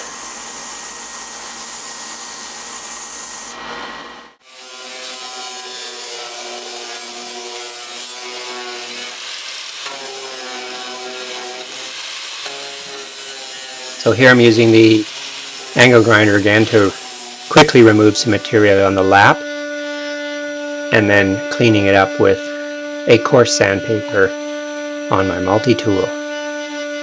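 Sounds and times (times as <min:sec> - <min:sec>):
angle grinder grinding wood: 0:00.0 - 0:27.0
belt sander abrading wood: 0:00.0 - 0:27.0.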